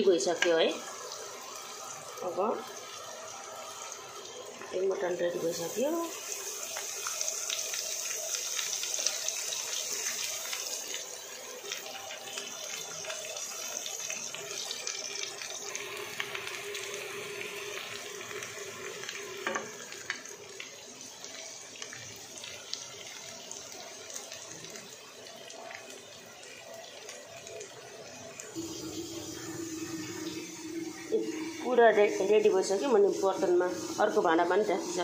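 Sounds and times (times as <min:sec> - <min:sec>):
meat sizzling in a pan: 0:00.0 - 0:35.0.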